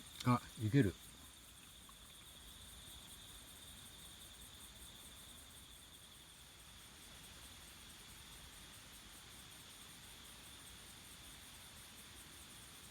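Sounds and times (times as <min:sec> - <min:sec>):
insects steady high trill: 0:00.0 - 0:12.9
rapidly pulsing insect trill: 0:00.0 - 0:12.9.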